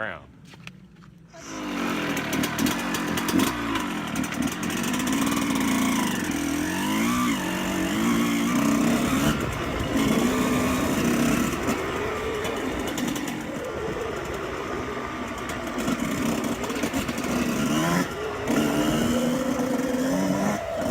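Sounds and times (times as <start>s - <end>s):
two-stroke dirt bike engine running: 1.4s - 20.9s.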